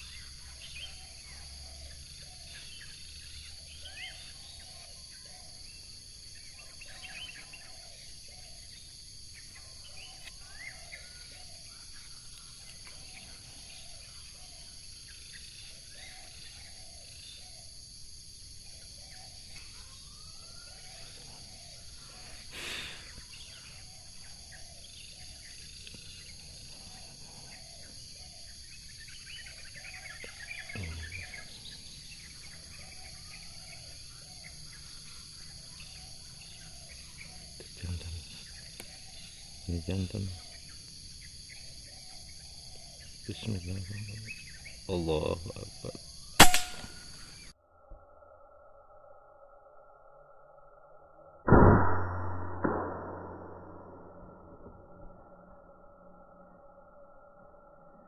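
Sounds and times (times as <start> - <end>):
birds chirping: 0.0 - 17.8, 18.5 - 47.5
insects buzzing: 0.0 - 51.4.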